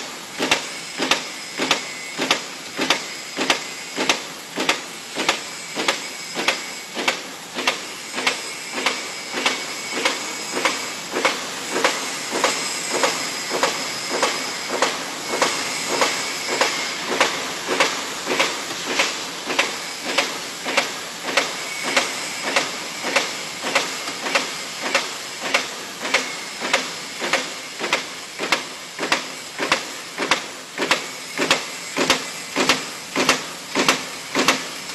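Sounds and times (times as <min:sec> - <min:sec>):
machine running noise: 0:00.0 - 0:34.9
punch press stamping clack: 0:00.4 - 0:34.9.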